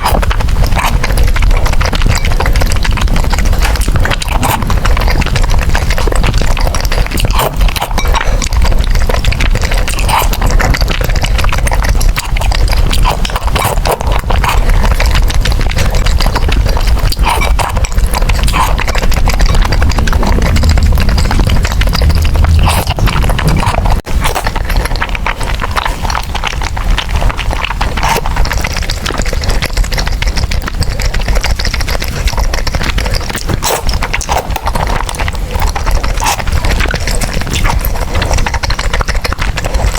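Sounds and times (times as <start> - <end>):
chewing and slurping noodles: 0.0 - 39.9.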